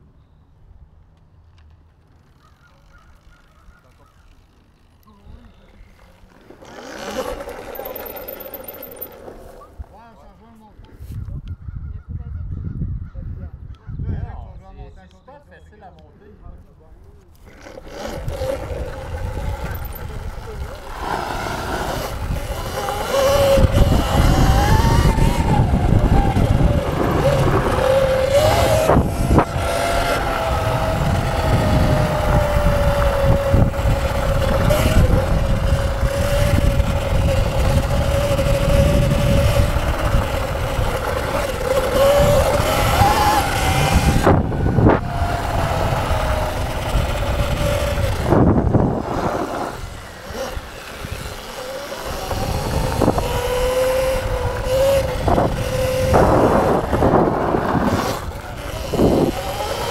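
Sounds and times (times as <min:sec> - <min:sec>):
electric motor whining: 0:02.2 - 0:09.9, 0:17.4 - 0:59.9.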